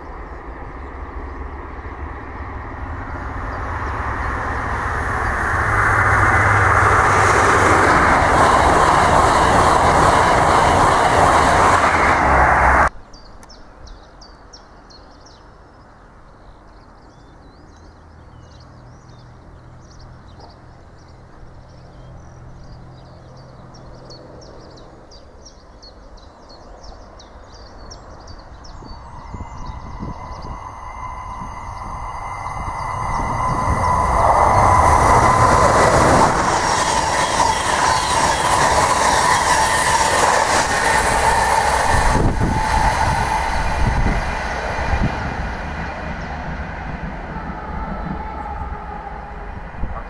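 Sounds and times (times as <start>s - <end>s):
train passing: 0.0s - 13.0s, 15.5s - 50.0s
birds chirping: 0.0s - 49.5s.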